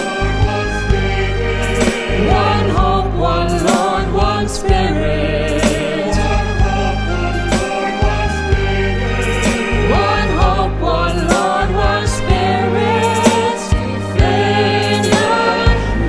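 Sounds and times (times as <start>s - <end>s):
bass guitar: 0.0s - 16.0s
choir singing: 0.0s - 16.0s
steady drum beat: 0.0s - 16.0s.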